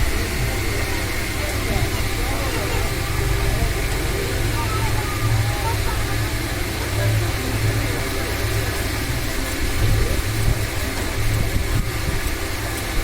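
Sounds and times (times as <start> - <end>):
table fan motor hum: 0.0 - 13.0.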